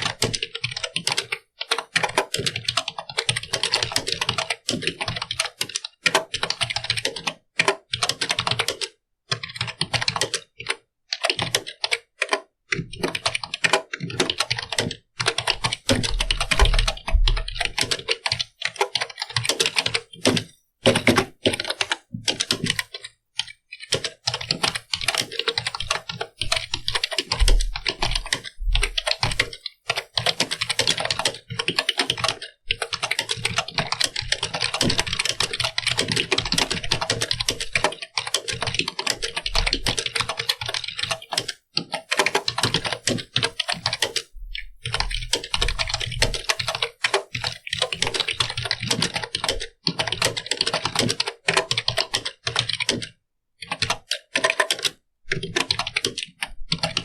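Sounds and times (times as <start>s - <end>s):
computer keyboard typing: 0.0s - 57.0s.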